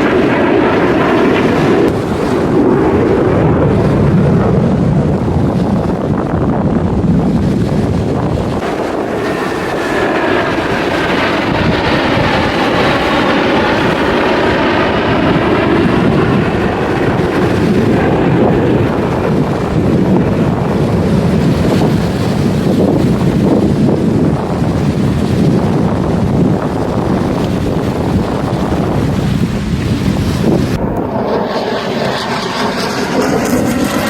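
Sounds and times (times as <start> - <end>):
jet aircraft flying past: 0.0 - 34.0.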